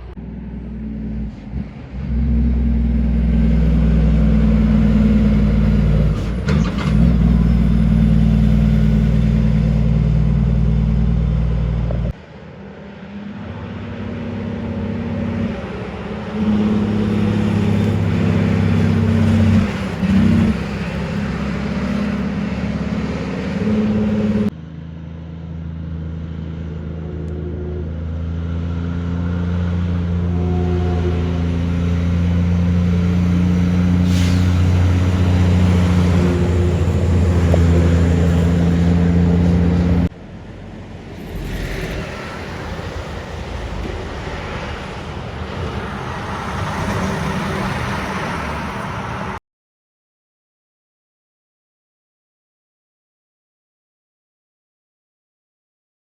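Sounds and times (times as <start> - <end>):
truck diesel engines running: 0.0 - 49.4.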